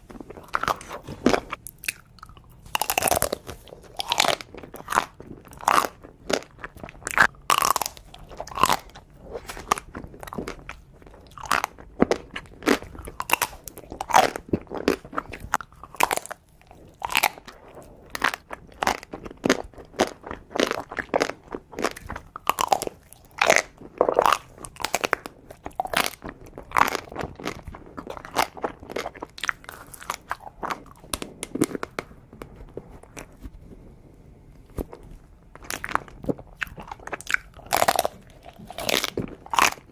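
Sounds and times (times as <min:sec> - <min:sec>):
crisp crunches and bites: 0:00.0 - 0:33.5, 0:34.7 - 0:39.9
person chewing: 0:00.0 - 0:33.6, 0:34.6 - 0:39.9.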